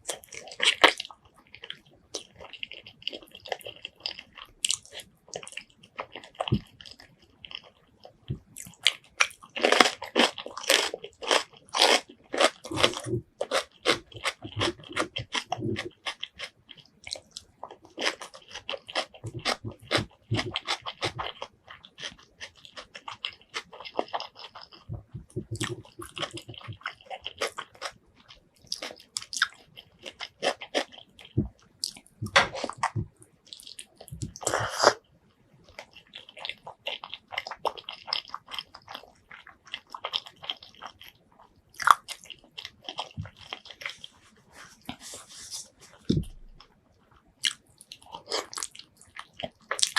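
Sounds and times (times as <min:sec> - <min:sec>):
chewing and biting food: 0:00.0 - 0:35.0, 0:35.7 - 0:44.2, 0:44.8 - 0:49.9.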